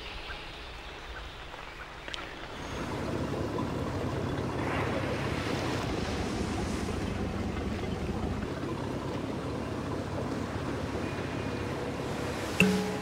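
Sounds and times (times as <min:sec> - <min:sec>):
sea noise: 0:00.0 - 0:13.0
wind: 0:00.0 - 0:13.0
low steady rumble: 0:02.5 - 0:13.0.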